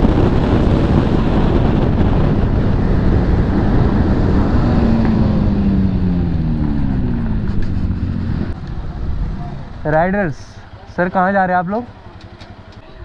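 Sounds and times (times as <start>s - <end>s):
motorcycle engine: 0.0s - 13.0s
wind and road rush: 0.0s - 13.0s.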